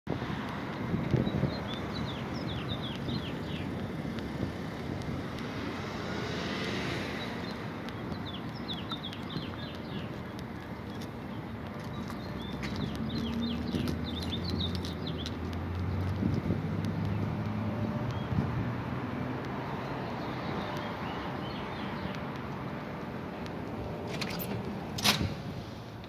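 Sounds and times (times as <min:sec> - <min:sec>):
street traffic: 0:00.0 - 0:26.0
vehicle passing: 0:00.1 - 0:25.9
small birds chirping: 0:00.5 - 0:24.1.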